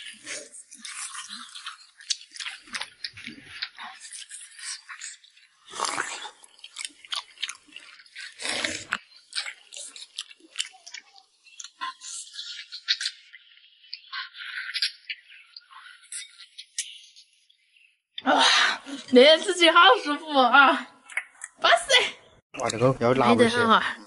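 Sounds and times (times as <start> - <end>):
people chewing food: 0.0 - 22.0, 22.6 - 24.0.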